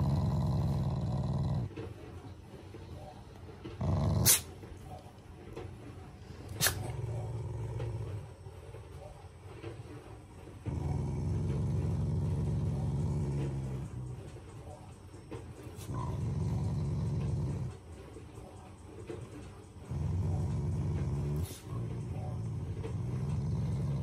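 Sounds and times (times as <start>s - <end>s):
dog growling: 0.0s - 2.3s, 3.6s - 4.6s, 6.2s - 9.0s, 9.6s - 18.2s, 19.0s - 24.0s.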